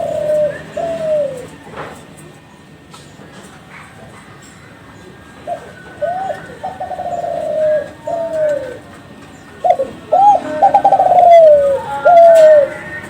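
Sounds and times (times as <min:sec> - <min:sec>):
dove cooing: 0:00.0 - 0:02.4, 0:03.7 - 0:13.0.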